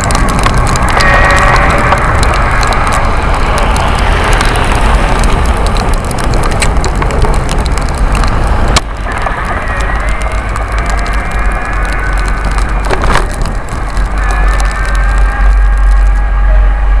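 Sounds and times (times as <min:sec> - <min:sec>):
clicks and rattles: 0:00.0 - 0:16.2
wind buffeting microphone: 0:00.0 - 0:17.0.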